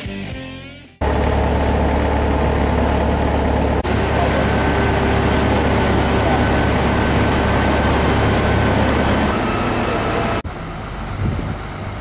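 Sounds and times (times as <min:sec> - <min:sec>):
diesel engine low rumble: 0:01.0 - 0:12.0.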